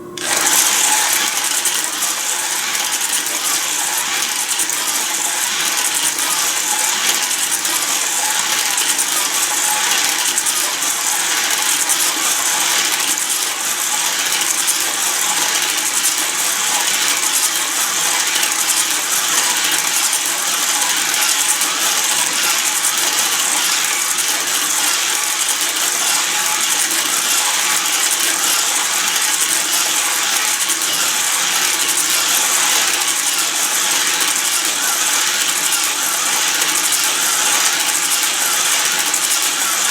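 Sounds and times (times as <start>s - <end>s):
toy slot cars whirring: 0.0s - 39.9s.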